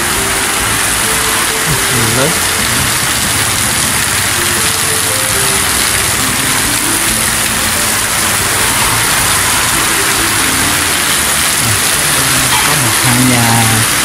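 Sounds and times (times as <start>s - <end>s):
heavy rain on street and roof: 0.0s - 14.0s
water streaming off roof: 0.0s - 14.0s.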